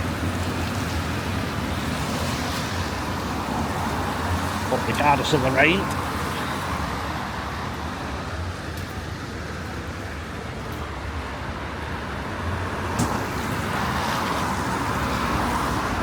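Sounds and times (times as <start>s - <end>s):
cars passing with tyre hiss: 0.0s - 16.0s.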